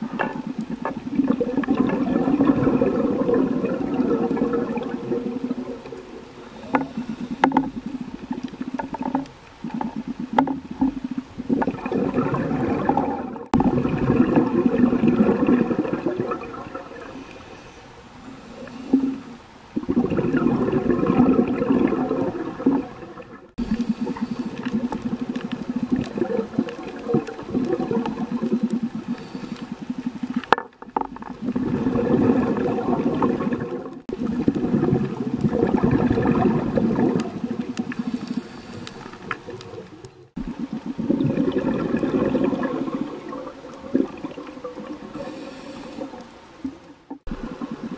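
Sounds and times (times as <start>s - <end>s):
scuba regulator bubbling underwater: 0.0s - 17.5s, 18.2s - 47.9s.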